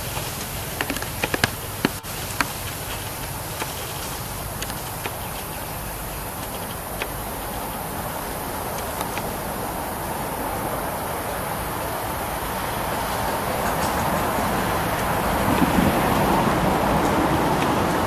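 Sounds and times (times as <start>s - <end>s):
insects calling: 0.0s - 18.0s.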